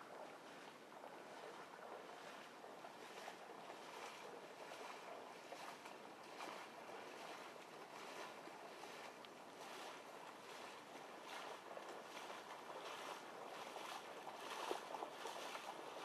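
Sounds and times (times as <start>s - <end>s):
small waves lapping on shore: 0.0s - 16.0s.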